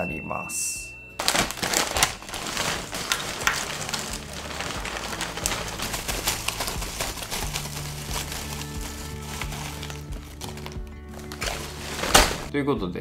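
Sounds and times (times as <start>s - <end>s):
chip bag crinkling: 1.2s - 12.5s.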